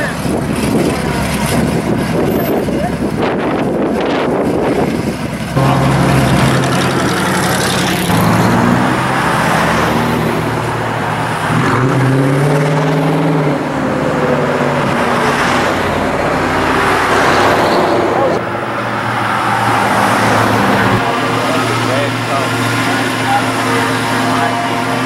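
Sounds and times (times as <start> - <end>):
car engines accelerating: 0.0 - 25.0.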